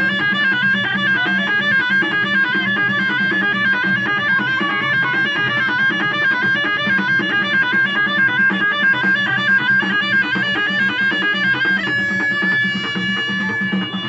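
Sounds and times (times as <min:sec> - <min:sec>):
high piercing lead melody: 0:00.0 - 0:14.0.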